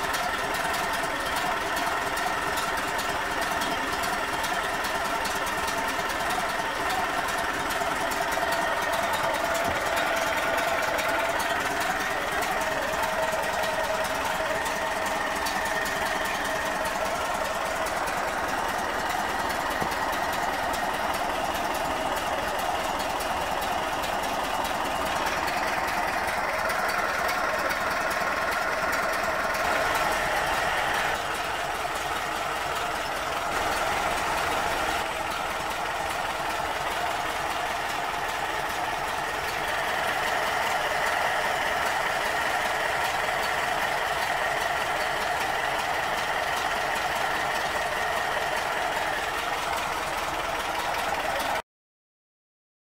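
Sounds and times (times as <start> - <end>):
car engine idling: 0.0 - 51.6.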